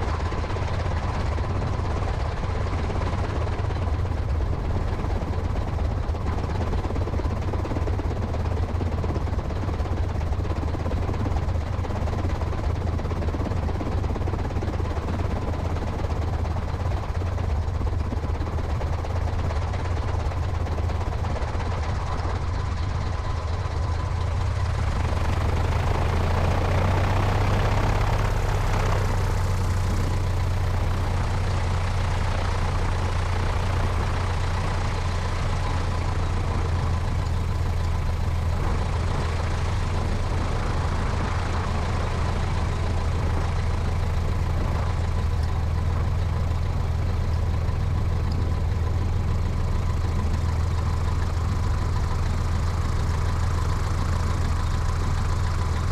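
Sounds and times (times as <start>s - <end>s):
propeller plane engine drone: 0.0s - 55.9s.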